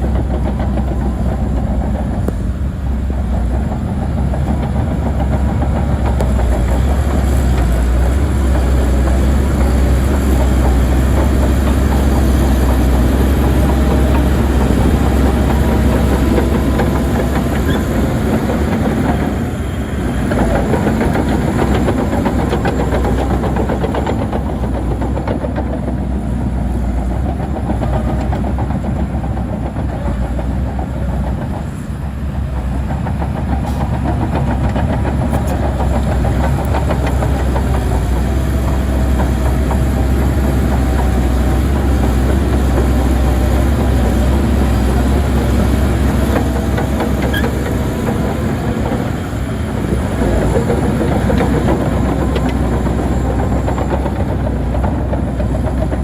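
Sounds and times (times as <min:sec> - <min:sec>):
diesel engine running hard: 0:00.0 - 0:56.0
steel tracks clanking: 0:00.0 - 0:56.0.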